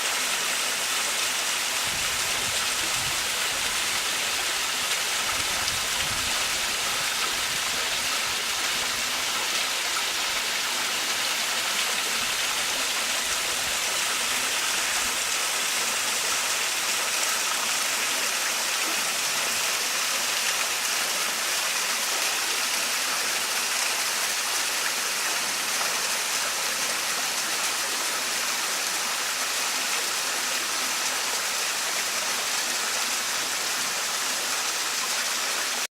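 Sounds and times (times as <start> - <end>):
waterfall splashing into stream: 0.0 - 35.9.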